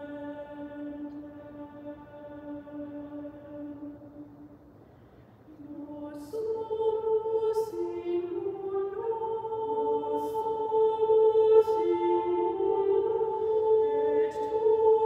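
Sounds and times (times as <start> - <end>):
women's choir singing: 0.0 - 4.4, 5.6 - 15.0.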